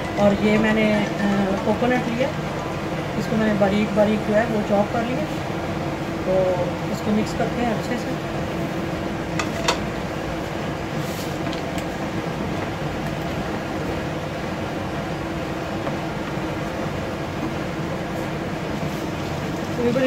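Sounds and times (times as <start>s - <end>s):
steady fan-like hum: 0.0s - 20.0s.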